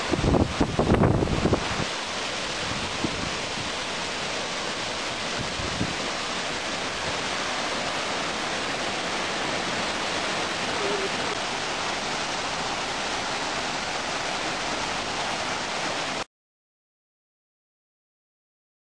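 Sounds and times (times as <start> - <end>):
waterfall rushing: 0.0 - 16.3.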